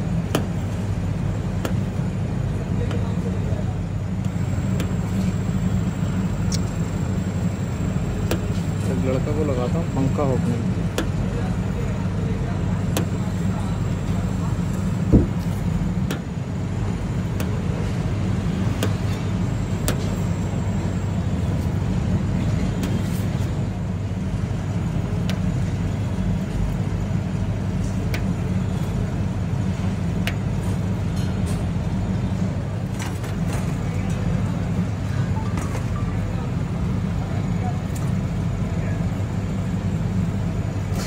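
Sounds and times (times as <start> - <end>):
low background hum and rumble: 0.0 - 41.0.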